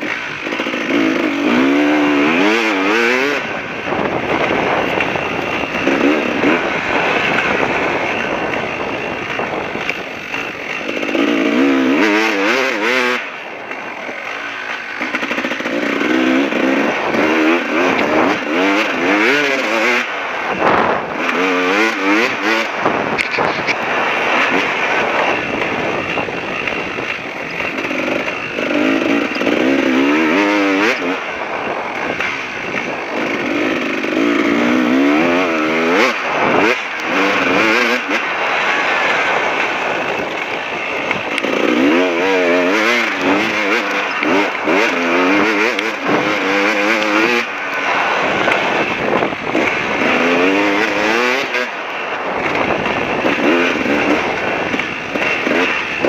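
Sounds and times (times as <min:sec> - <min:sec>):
dirt bike engine revving: 0:00.0 - 0:56.0
wind and track noise: 0:00.0 - 0:56.0.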